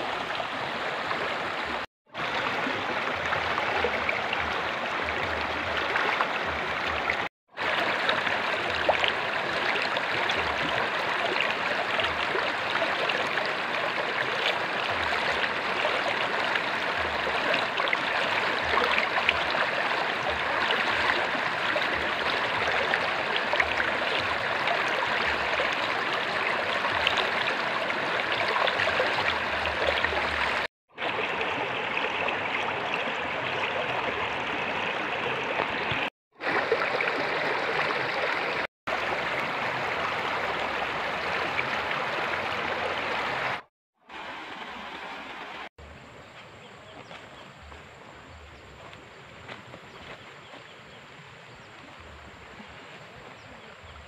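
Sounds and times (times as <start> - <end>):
stream rushing over stones: 0.0 - 46.3.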